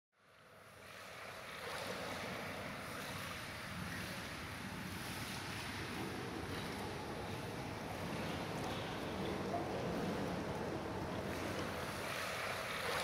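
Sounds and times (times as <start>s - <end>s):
moving water washing: 1.0s - 13.0s.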